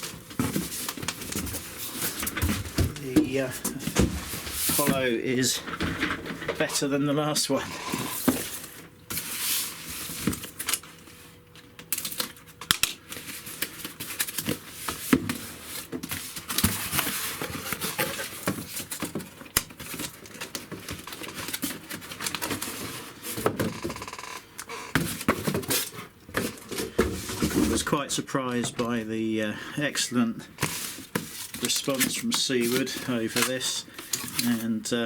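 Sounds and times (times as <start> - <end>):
packaging rustling: 0.0 - 6.7, 7.8 - 27.8, 30.6 - 34.7.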